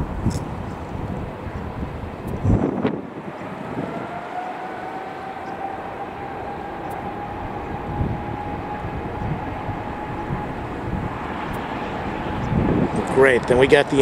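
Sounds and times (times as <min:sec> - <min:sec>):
jet airliner roar and whine: 0:00.0 - 0:14.0.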